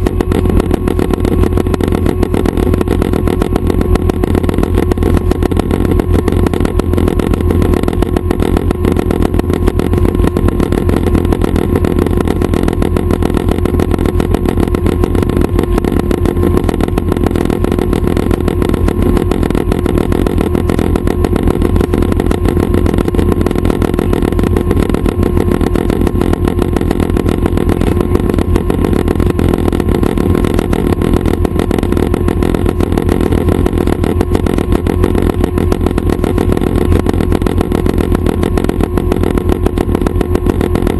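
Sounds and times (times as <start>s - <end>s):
helicopter engine and rotors drone: 0.0s - 40.9s.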